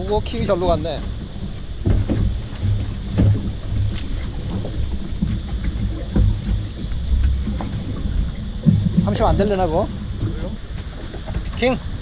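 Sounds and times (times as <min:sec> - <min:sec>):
wind rumbling on microphone: 0:00.0 - 0:12.0
sharp knocks: 0:01.8 - 0:11.7.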